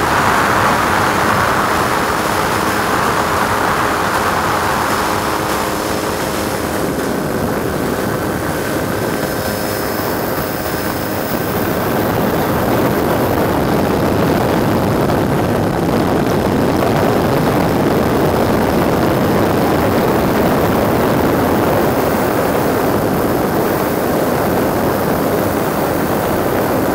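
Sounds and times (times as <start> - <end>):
faint engine tones: 0.0 - 26.9
helicopter rotor and engine: 0.0 - 26.9.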